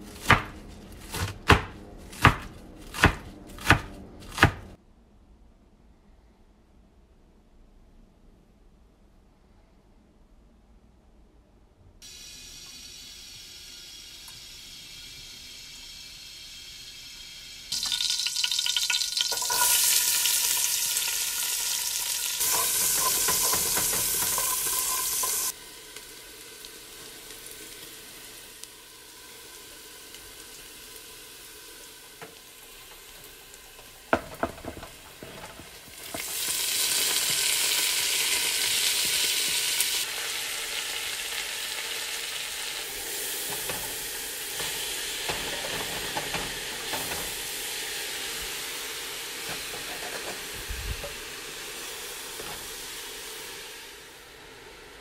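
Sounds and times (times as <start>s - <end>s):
onion and garlic sizzling in oil: 0.0s - 4.6s, 12.0s - 55.0s.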